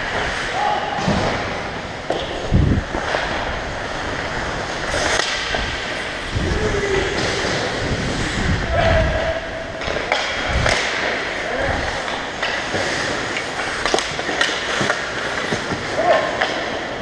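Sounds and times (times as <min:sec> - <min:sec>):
hockey sticks clacking: 0:00.0 - 0:17.0
skate blades scraping ice: 0:00.0 - 0:17.0.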